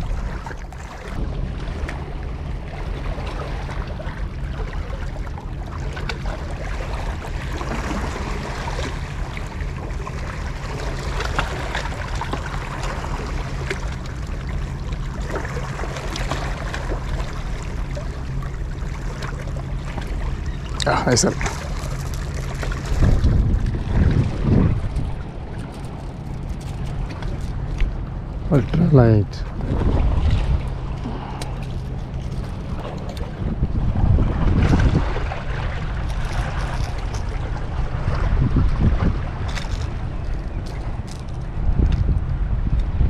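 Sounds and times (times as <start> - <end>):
low hum: 0.0 - 43.0
sea water washing against rocks: 0.0 - 43.0.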